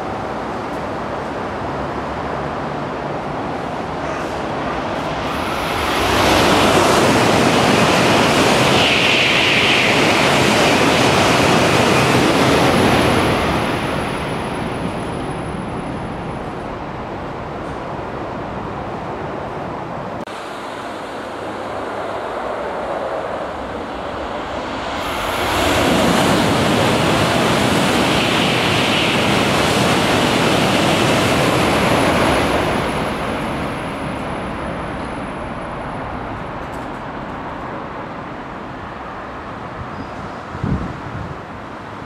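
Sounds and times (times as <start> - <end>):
high-speed train passing: 0.0 - 42.0.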